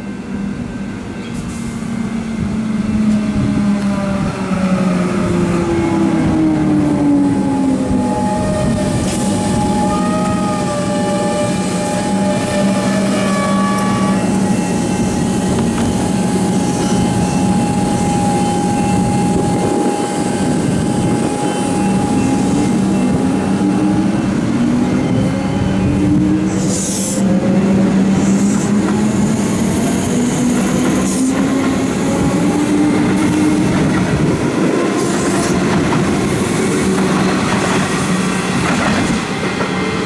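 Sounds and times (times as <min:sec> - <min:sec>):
train traction motor whine: 0:00.0 - 0:40.0
wheels rumbling on rails: 0:00.0 - 0:40.0.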